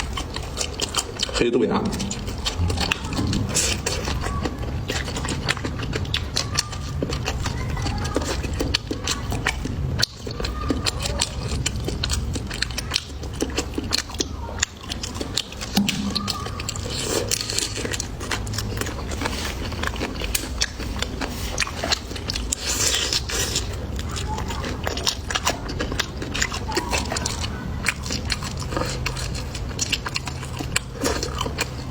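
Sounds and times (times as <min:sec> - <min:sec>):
crunchy chewing of food: 0:00.0 - 0:31.9
wet mouth sounds: 0:00.0 - 0:31.9.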